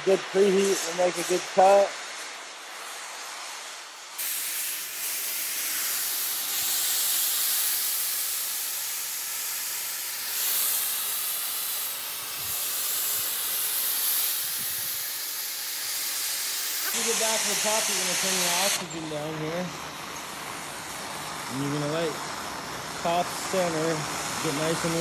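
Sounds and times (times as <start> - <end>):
torch flame hissing: 0.0 - 25.0.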